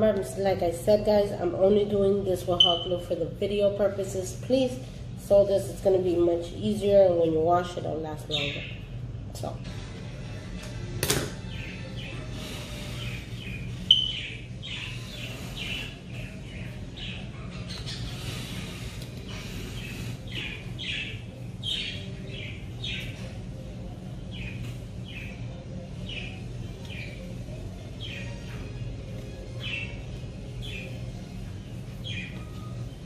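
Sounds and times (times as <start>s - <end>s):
birds chirping: 0.0s - 3.8s, 4.8s - 10.5s, 11.4s - 33.0s
low steady hum: 0.0s - 33.0s.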